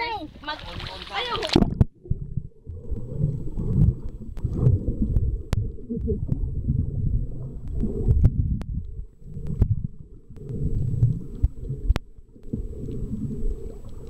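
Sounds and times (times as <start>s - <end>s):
underwater low rumble: 0.0s - 14.0s.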